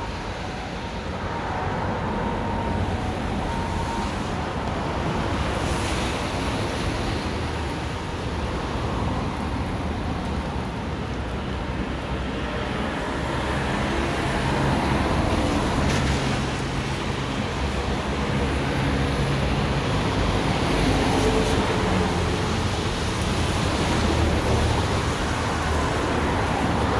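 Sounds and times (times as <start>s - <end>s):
city traffic noise: 0.0s - 26.9s.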